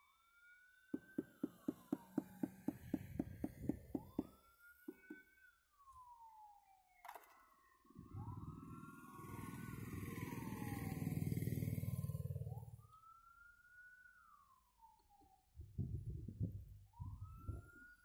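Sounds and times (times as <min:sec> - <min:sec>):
wailing siren-like tone: 0:00.0 - 0:18.0.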